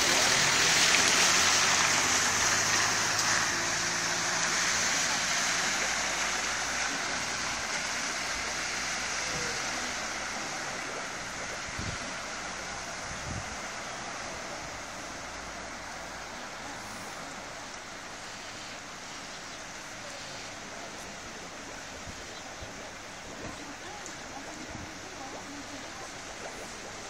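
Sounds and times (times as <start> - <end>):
tyres splashing through water: 0.0 - 27.0.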